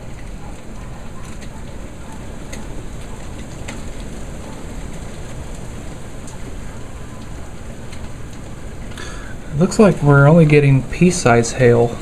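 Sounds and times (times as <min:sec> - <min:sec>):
hailstones ticking: 0:00.0 - 0:12.0
heavy rain hissing: 0:00.0 - 0:12.0.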